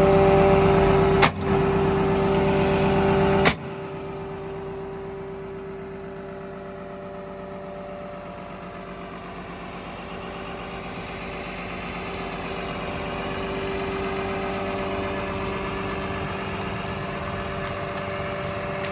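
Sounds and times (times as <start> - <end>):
bulldozer diesel engine idling: 0.0 - 18.9.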